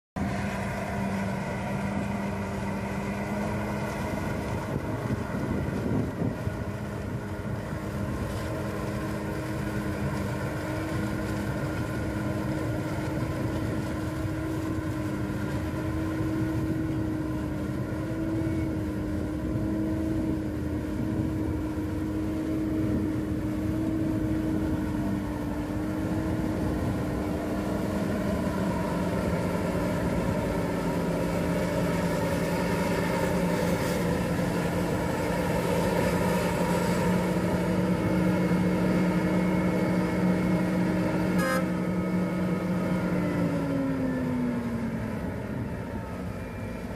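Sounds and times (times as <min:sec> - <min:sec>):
harvester machine drone: 0:00.2 - 0:46.9.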